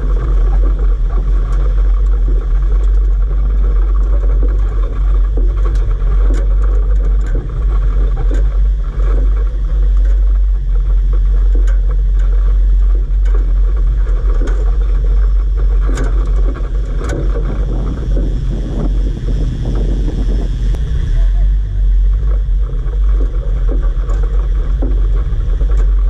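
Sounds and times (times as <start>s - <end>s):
vehicle clattering over bumps: 0.0s - 26.0s
vehicle engine rumble: 0.0s - 26.0s.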